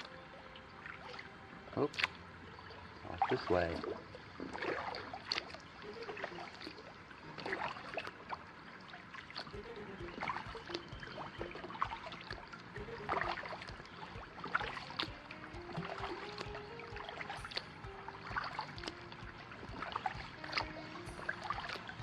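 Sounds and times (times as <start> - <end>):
paddle strokes splashing in water: 0.8 - 22.0.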